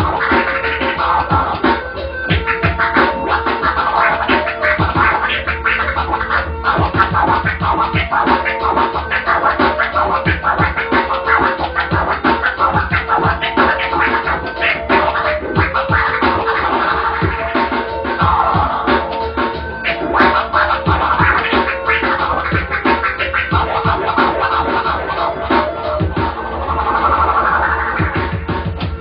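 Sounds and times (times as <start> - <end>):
backing music track: 0.0 - 29.0
record scratching on turntable: 0.0 - 29.0.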